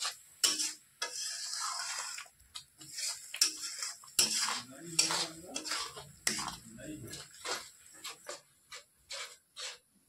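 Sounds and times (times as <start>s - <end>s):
metal spoon scraping a pan: 0.0s - 10.0s.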